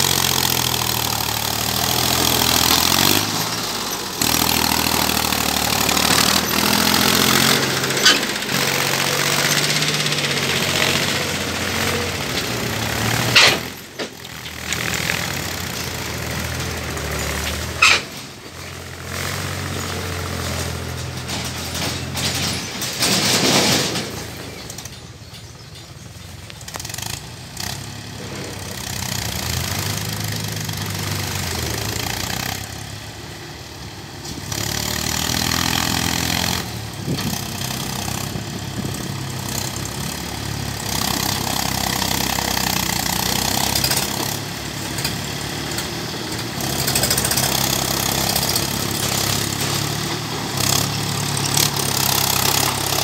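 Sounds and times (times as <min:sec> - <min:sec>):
diesel tractor engine labouring: 0:00.0 - 0:53.0.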